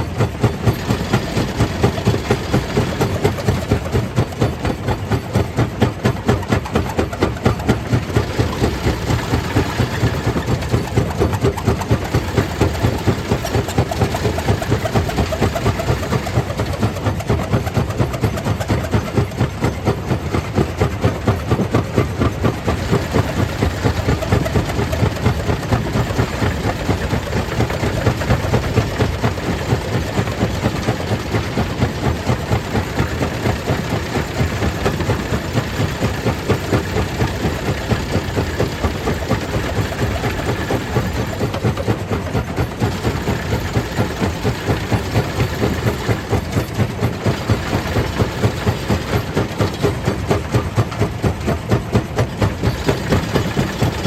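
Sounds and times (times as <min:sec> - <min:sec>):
stone crusher machine drone: 0:00.0 - 0:54.0.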